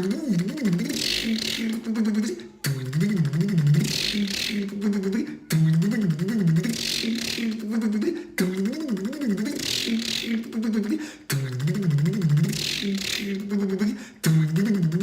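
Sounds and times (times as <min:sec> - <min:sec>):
man imitating engine cranking: 0:00.0 - 0:15.0.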